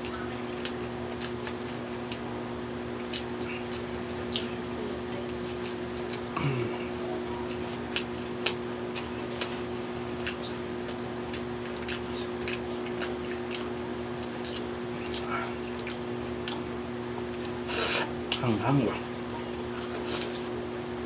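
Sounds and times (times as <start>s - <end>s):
chewing and wet lip-smacking: 0.0s - 18.6s, 19.2s - 20.6s
steady low hum: 0.0s - 21.0s.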